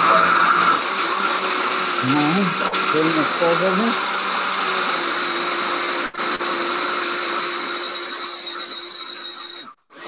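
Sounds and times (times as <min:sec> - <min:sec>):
electric blender motor whine: 0:00.0 - 0:10.0.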